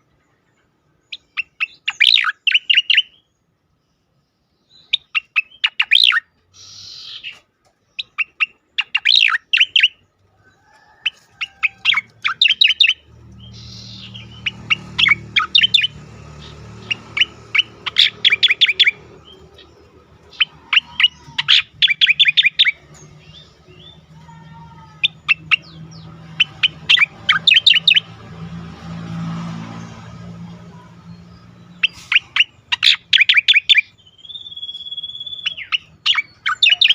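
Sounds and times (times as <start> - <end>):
bird chattering song: 0.3 - 10.1, 11.0 - 28.8, 29.6 - 36.9.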